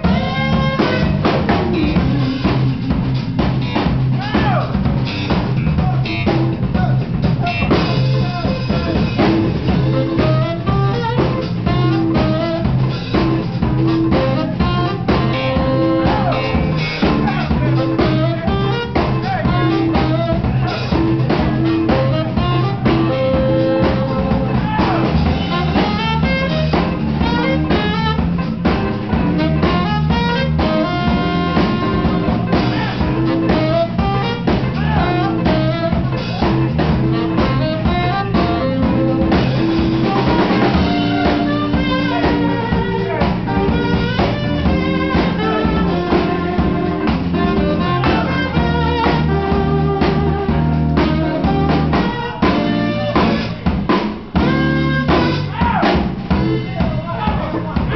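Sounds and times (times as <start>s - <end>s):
drum kit: 0.0s - 57.9s
electric bass line: 0.0s - 57.9s
saxophones playing melody: 0.0s - 57.9s.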